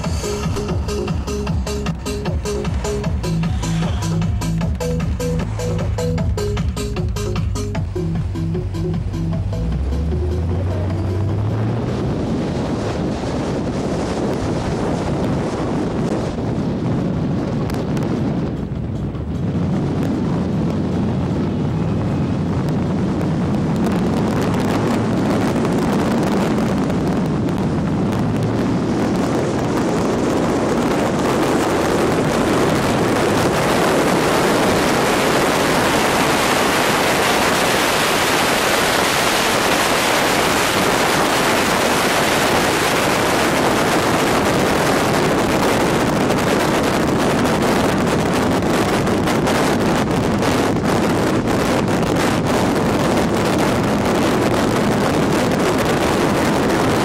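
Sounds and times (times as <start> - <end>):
car engine hum: 0.0 - 57.0
road noise: 0.0 - 57.0
wind rushing over microphone: 0.0 - 57.0.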